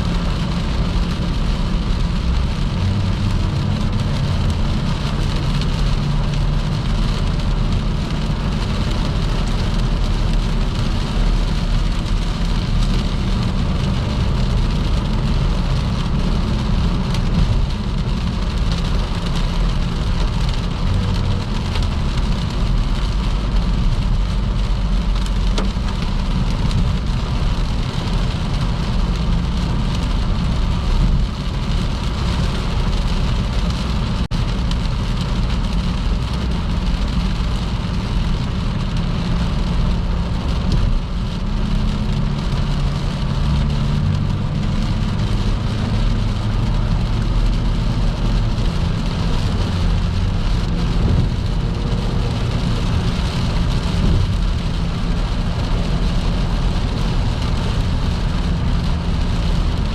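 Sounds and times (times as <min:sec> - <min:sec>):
car engine and road hum: 0:00.0 - 0:59.9
heavy rain: 0:00.0 - 0:59.9
wet tyre noise: 0:00.0 - 0:59.9.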